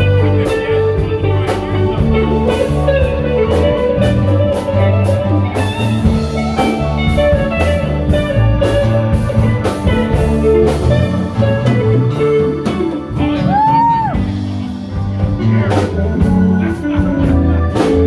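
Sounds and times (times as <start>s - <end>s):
drum kit strikes: 0.0s - 18.0s
live band playing instrumental: 0.0s - 18.0s.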